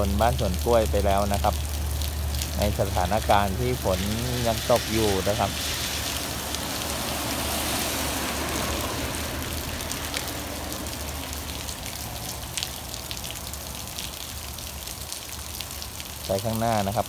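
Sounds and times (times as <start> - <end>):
light rain falling: 0.0 - 17.0
raindrops ticking: 0.0 - 17.0.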